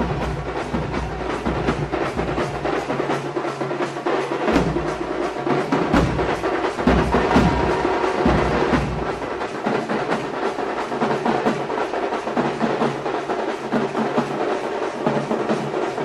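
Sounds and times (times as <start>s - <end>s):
deep booming drum beats: 0.0s - 16.0s
drums beaten fast: 0.0s - 16.0s.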